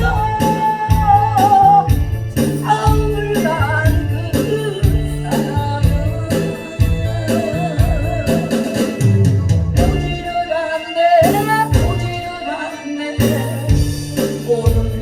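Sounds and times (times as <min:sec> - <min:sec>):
music with beat and bass: 0:00.0 - 0:15.0
person singing: 0:00.0 - 0:15.0.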